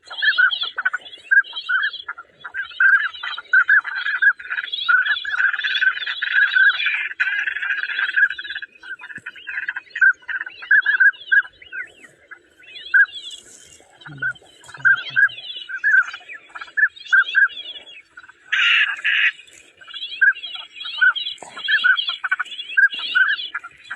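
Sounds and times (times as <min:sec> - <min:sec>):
ducks calling: 0:00.0 - 0:23.9.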